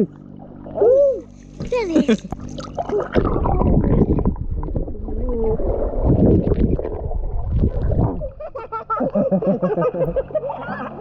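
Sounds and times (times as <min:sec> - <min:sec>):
water sloshing and gurgling: 0:00.0 - 0:11.0.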